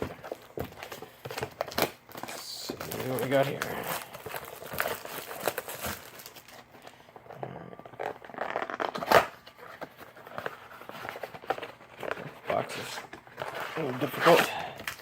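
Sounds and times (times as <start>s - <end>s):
cardboard packaging tearing: 0.0s - 6.7s, 7.9s - 15.0s.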